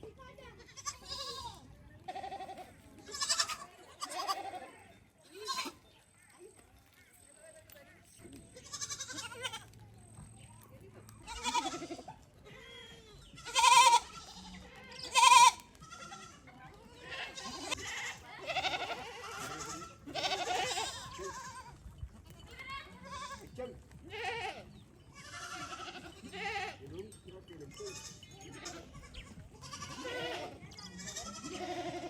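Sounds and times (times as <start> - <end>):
goats bleating: 0.6 - 5.8, 8.6 - 9.7, 11.2 - 26.9, 27.7 - 32.0.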